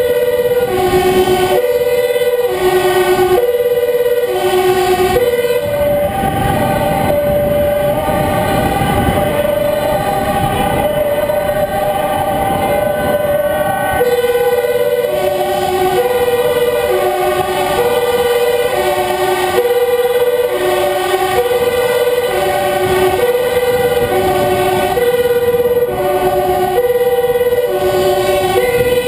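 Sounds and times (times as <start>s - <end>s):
lower-pitched two-tone siren: 0.0s - 29.0s
two-tone sirens: 0.0s - 29.0s.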